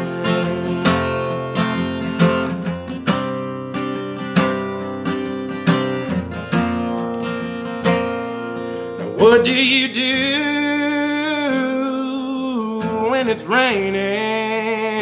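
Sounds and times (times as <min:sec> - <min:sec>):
acoustic guitar strumming: 0:00.0 - 0:15.0
person singing country song: 0:00.0 - 0:15.0.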